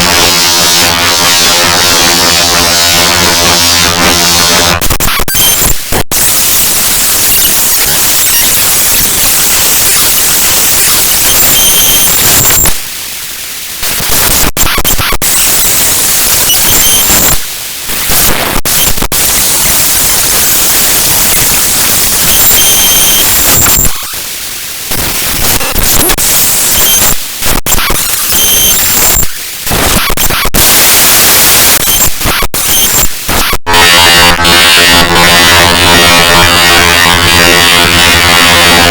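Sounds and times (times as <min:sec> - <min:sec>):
harsh static-like hiss: 0:00.0 - 0:38.9.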